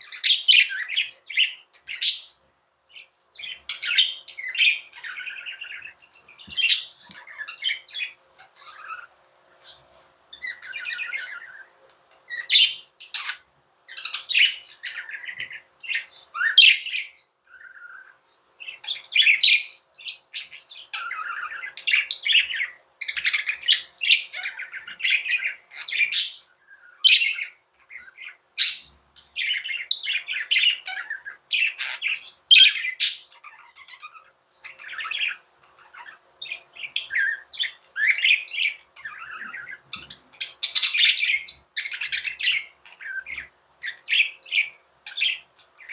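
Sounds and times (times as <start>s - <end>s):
budgerigars chirping and warbling: 0.0s - 45.9s.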